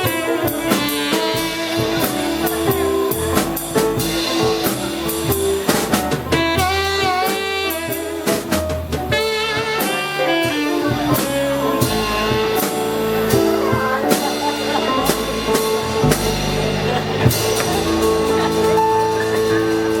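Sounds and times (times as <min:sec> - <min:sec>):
drum kit hits: 0:00.0 - 0:19.9
jazz band playing: 0:00.0 - 0:20.0.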